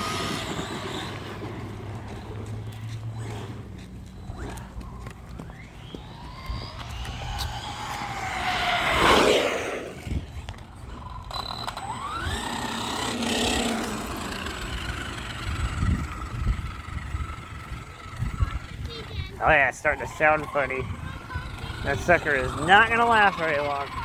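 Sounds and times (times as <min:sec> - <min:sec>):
electric motor whine: 0:00.0 - 0:24.0
tires rumbling on pavement: 0:00.0 - 0:24.0.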